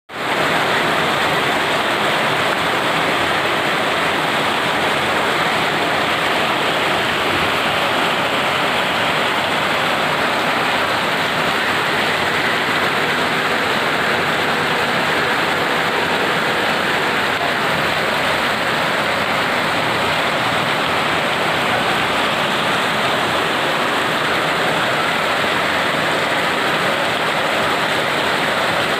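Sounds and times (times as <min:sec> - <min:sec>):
rain pouring down: 0:00.1 - 0:28.9.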